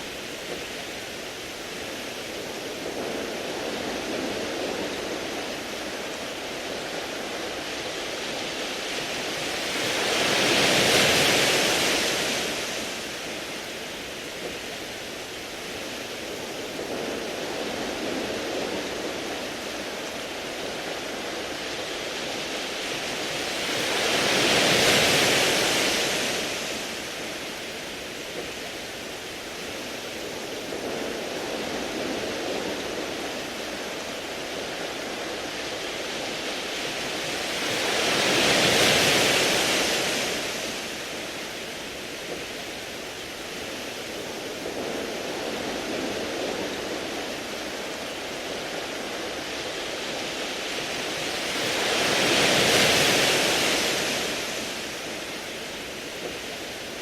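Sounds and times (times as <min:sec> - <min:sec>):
waves washing over pebbles: 0:00.0 - 0:57.0.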